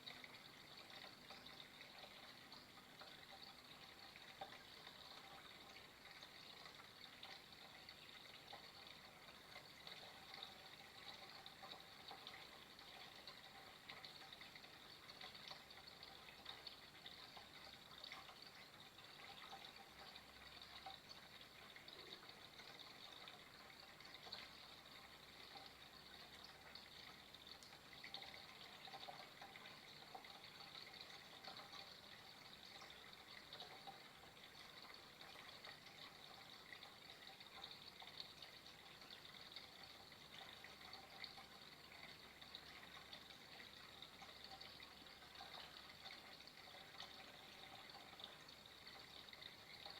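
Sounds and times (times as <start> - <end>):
water trickling and splashing: 0.0 - 49.9.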